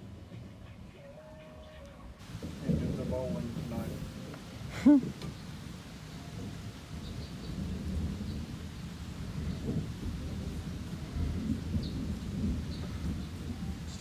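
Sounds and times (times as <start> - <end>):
low rumble of thunder: 2.2 - 14.0
rain falling: 2.2 - 14.0.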